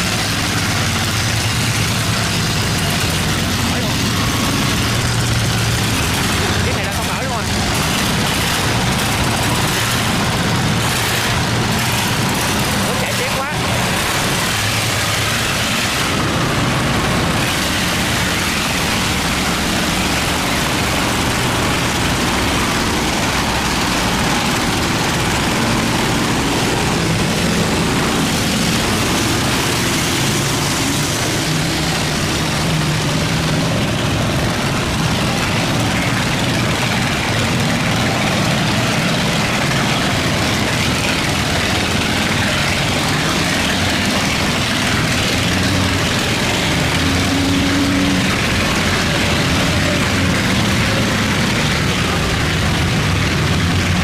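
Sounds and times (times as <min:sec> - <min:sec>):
boat engines running: 0:00.0 - 0:54.0
fast-flowing water rushing: 0:00.0 - 0:54.0.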